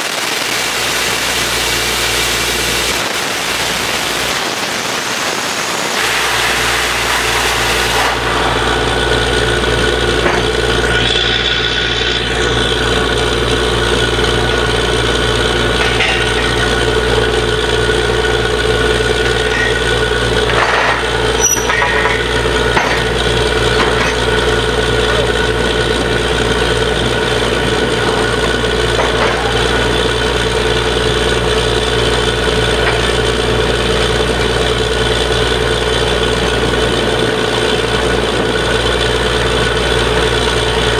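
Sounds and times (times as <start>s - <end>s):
drilling rig machinery hum: 0.0s - 40.9s.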